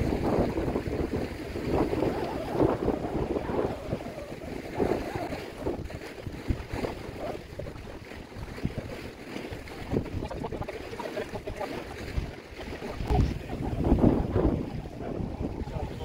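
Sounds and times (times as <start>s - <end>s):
sea washing against rocks: 0.0s - 16.0s
wind buffeting microphone: 0.0s - 16.0s.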